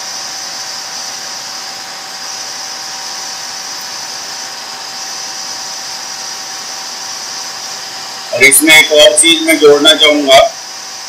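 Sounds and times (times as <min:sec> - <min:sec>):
lathe machine whine with hiss: 0:00.0 - 0:11.0.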